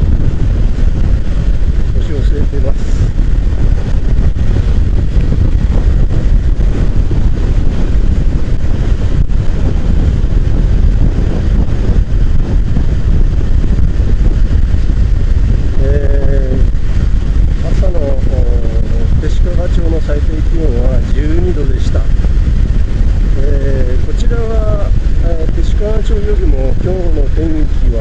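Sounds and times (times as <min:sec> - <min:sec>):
motorcycle riding: 0:00.0 - 0:28.0
wind rushing over microphone: 0:00.0 - 0:28.0.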